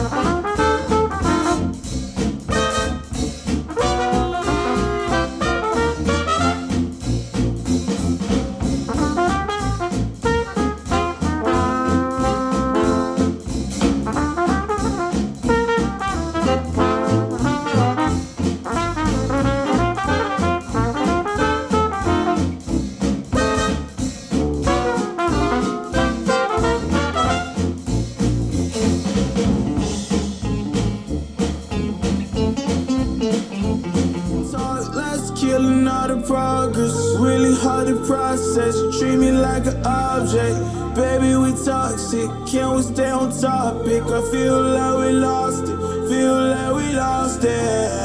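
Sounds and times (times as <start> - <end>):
steady beat with strong bass: 0.0 - 11.7, 20.7 - 47.8
jazz music with brass horns: 0.0 - 48.0.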